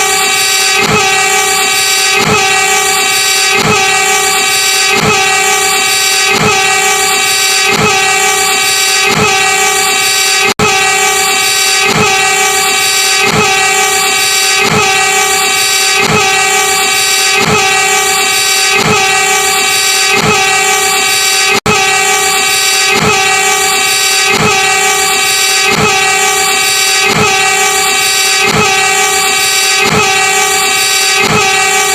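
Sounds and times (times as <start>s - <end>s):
train horn steady tone: 0.0s - 31.9s.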